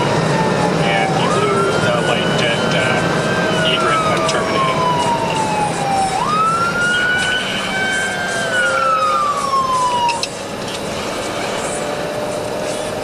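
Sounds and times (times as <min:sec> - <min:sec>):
car road and engine noise: 0:00.0 - 0:13.0
police siren wailing: 0:00.0 - 0:13.0.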